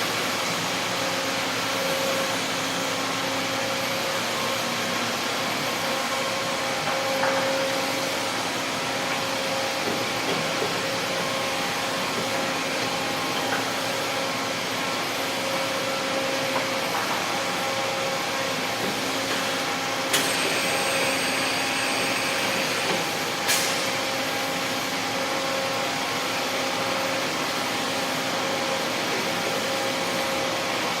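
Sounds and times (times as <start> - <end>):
high machine whine: 0.0 - 31.0
boring machine running: 0.2 - 30.4.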